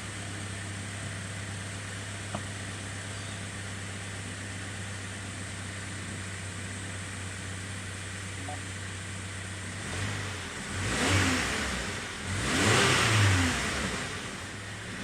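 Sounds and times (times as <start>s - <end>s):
car engine idling: 0.0s - 11.0s, 13.7s - 15.0s.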